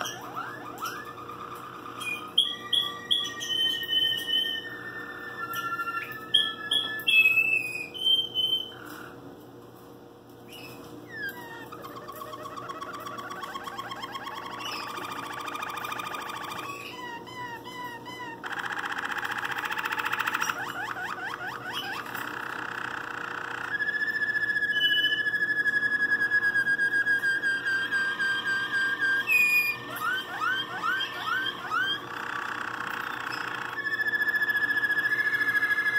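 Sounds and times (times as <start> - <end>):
canary singing trills: 0.0 - 9.1, 10.5 - 35.9.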